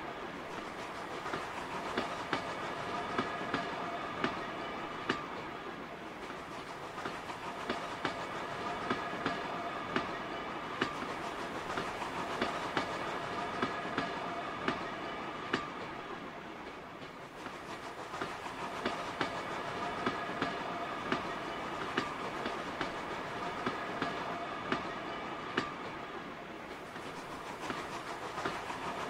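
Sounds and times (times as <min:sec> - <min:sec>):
model train whine and rolling: 0:00.0 - 0:29.0.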